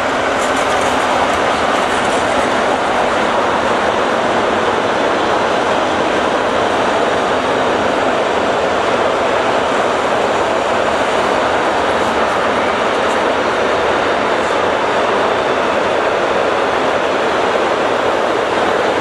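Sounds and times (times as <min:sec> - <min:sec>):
train wheels rolling on rail: 0:00.0 - 0:19.0.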